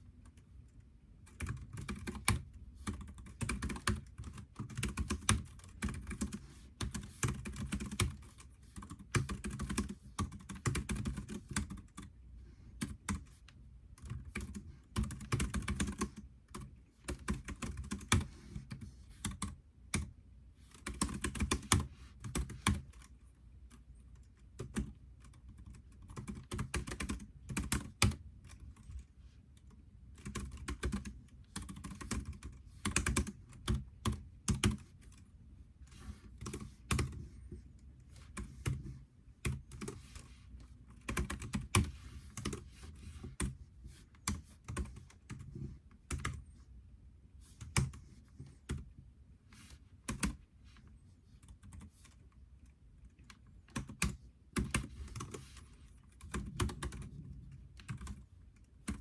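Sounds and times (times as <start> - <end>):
computer keyboard typing: 1.2 - 12.2, 12.8 - 20.1, 20.7 - 35.3, 35.9 - 37.4, 38.1 - 46.4, 47.6 - 48.9, 50.1 - 50.5, 51.4 - 59.0.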